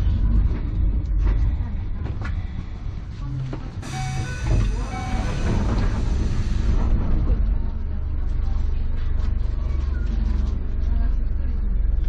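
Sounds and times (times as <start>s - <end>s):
train wheels rumbling on track: 0.0s - 11.1s.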